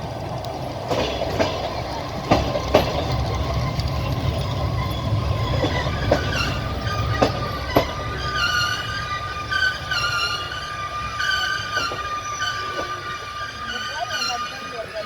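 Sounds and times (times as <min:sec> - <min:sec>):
train wheels rumbling on track: 0:00.0 - 0:15.0
wheels clacking over rail joints: 0:00.0 - 0:15.0.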